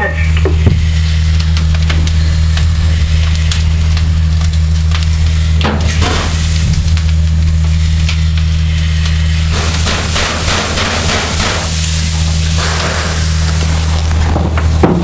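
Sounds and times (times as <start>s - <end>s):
fire roaring rumble: 0.0s - 15.0s
wood fire crackling and popping: 0.0s - 15.0s.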